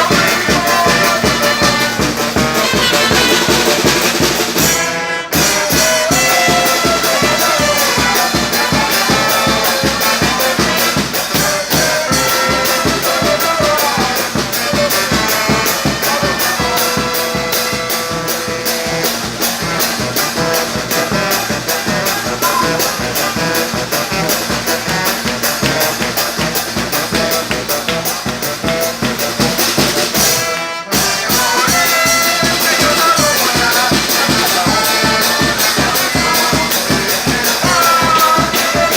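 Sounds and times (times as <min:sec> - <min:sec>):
steady drum beat: 0:00.0 - 0:38.9
trumpets and trombones: 0:00.0 - 0:38.9.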